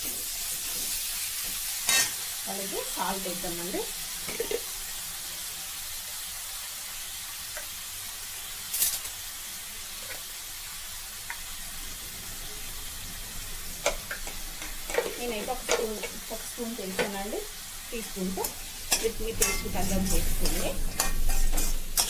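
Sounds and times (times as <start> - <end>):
chicken and onions sizzling: 0.0 - 22.0.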